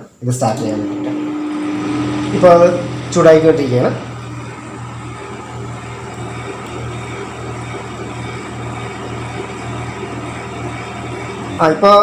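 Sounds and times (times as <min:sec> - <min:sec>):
microwave oven humming: 0:00.4 - 0:12.0.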